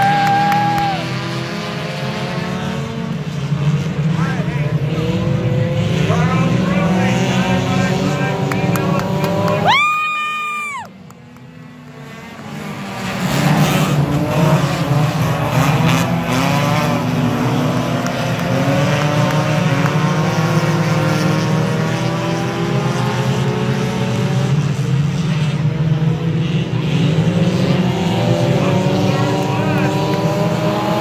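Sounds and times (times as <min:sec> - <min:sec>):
race car engines at high revs: 0:00.0 - 0:31.0.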